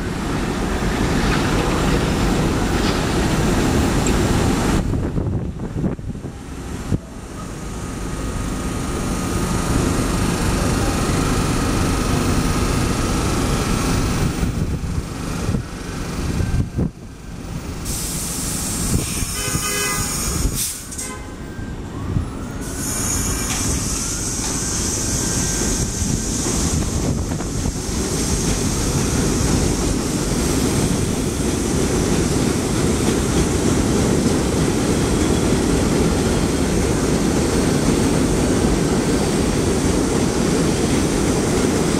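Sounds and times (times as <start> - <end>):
subway train rumbling on rails: 0.0 - 41.9.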